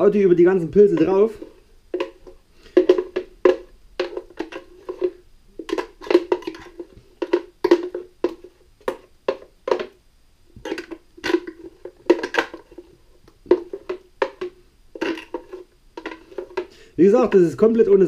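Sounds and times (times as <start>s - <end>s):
wet scraping of marinade: 0.0s - 10.0s, 10.6s - 18.0s
hollow plastic knocks: 0.8s - 10.0s, 10.6s - 17.5s.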